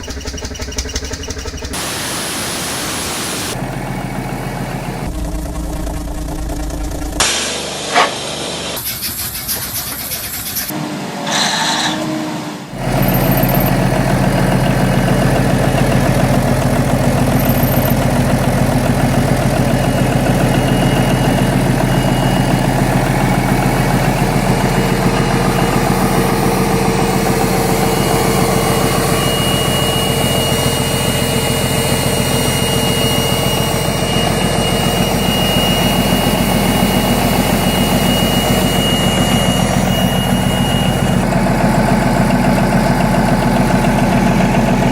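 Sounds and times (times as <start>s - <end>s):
large engine running: 0.0s - 8.9s, 12.7s - 44.9s.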